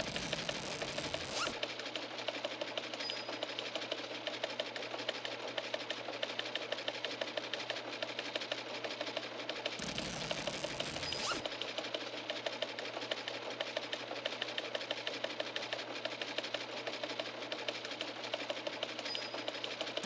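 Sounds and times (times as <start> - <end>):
fast machine-like clicking: 0.0 - 20.0.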